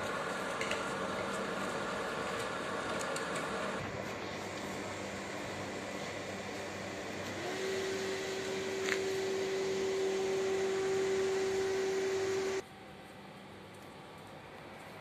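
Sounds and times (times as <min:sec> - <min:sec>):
electric train humming: 0:00.0 - 0:12.6
steady whine: 0:00.0 - 0:12.9.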